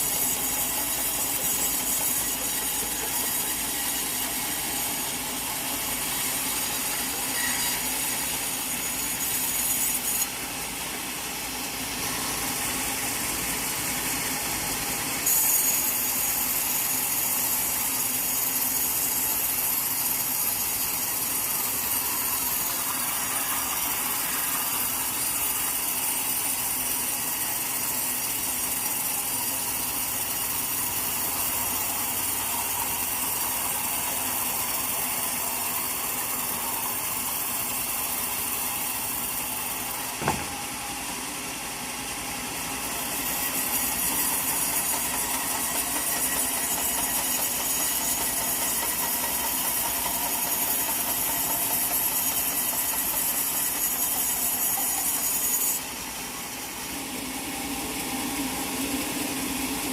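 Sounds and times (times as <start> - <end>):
sawmill saw cutting log: 0.0 - 59.9.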